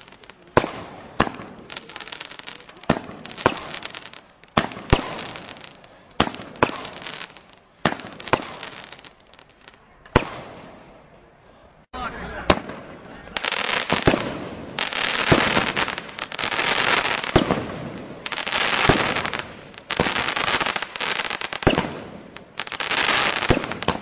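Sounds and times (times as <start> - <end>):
fireworks bangs: 0.0 - 11.1, 12.3 - 24.0
fireworks crackling: 0.0 - 11.1, 12.2 - 24.0.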